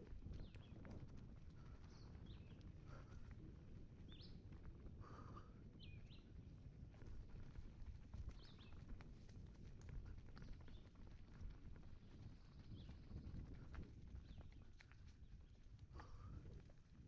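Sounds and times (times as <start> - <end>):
bike tyres rolling over dirt trail: 0.0 - 17.0.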